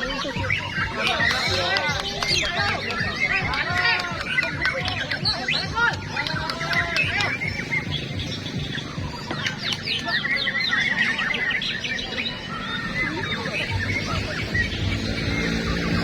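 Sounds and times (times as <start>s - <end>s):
crowd murmur: 0.0s - 16.0s
songbirds singing: 0.0s - 16.0s.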